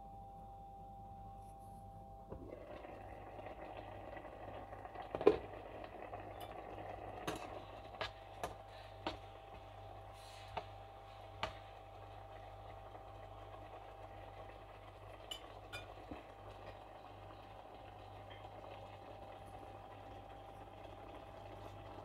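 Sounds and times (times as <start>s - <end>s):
curry bubbling sizzle: 2.3s - 22.0s.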